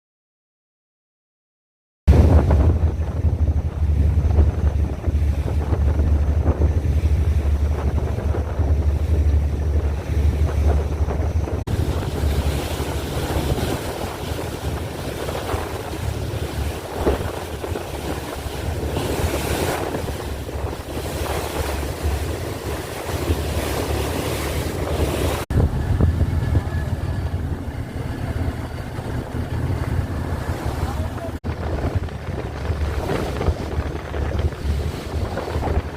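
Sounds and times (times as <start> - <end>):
sea waves breaking: 2.1 - 35.9
wind buffeting microphone: 2.1 - 35.9.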